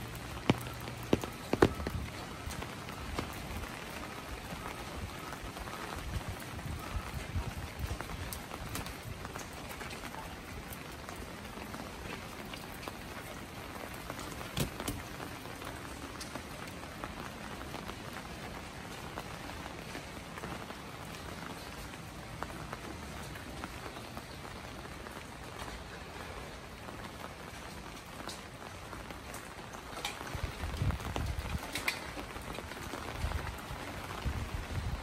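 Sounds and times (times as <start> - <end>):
rain hiss: 0.0 - 35.0
raindrop ticks: 0.0 - 35.0.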